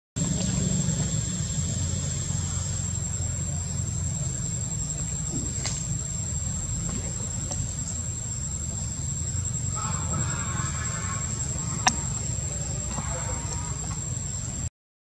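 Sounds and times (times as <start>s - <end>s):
high-pitched insect drone: 0.2s - 14.7s
low rumble: 0.2s - 14.7s.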